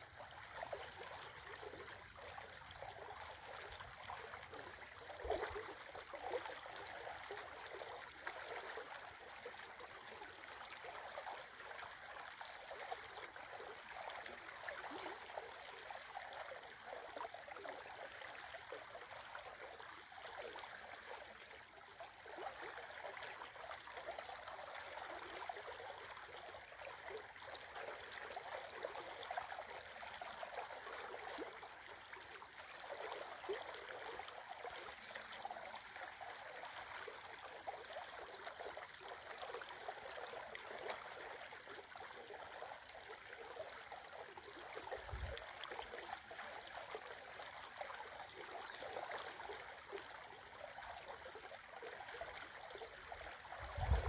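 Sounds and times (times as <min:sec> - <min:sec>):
shallow river babbling: 0:00.0 - 0:54.0.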